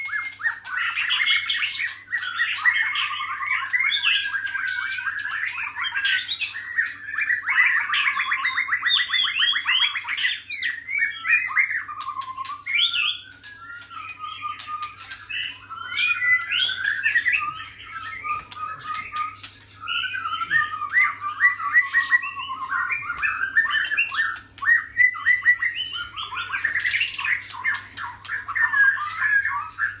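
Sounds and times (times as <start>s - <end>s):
bird singing whistles and trills: 0.0s - 30.0s.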